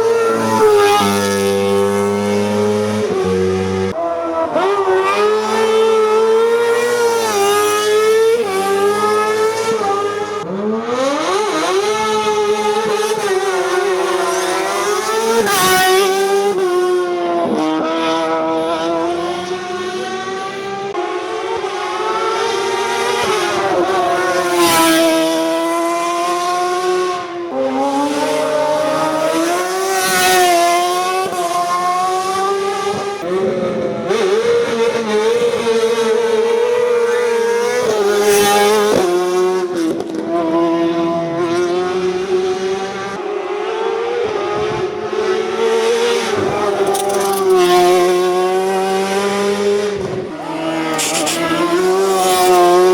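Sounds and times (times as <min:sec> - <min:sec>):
race car engine at high revs: 0:00.0 - 0:52.9.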